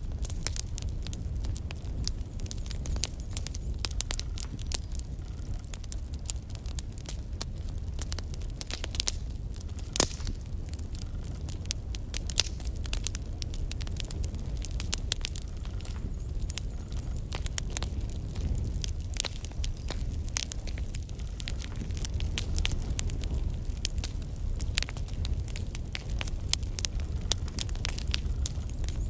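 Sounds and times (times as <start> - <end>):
low rumble of flames: 0.0 - 29.0
wood crackling and popping: 0.0 - 29.0.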